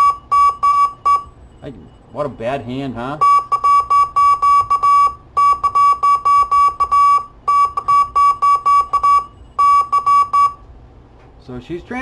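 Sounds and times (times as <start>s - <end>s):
morse code beeps: 0.0s - 10.6s.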